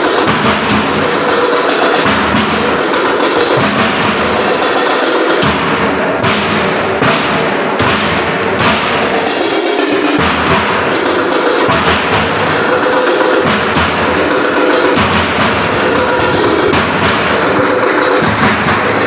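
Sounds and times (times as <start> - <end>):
drum-heavy music: 0.0 - 19.0.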